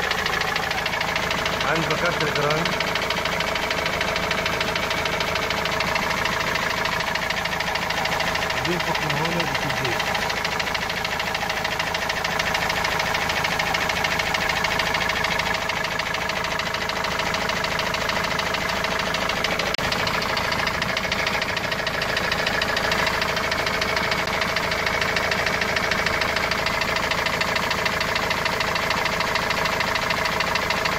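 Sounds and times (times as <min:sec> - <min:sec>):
diesel engine idling with knock: 0:00.0 - 0:30.9.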